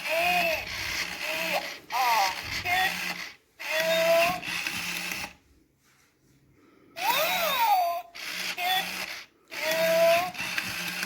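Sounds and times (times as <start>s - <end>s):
electronic toy sounds: 0.0s - 5.4s, 7.0s - 11.0s
toy gear motor whirring: 0.0s - 5.4s, 7.0s - 11.0s.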